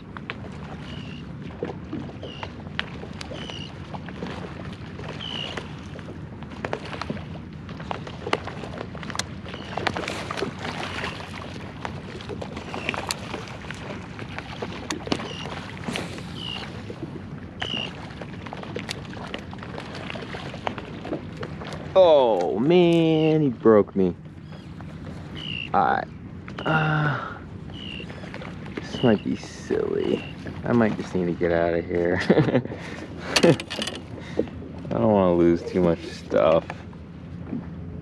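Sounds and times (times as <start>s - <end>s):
water lapping around kayak: 0.0s - 38.0s.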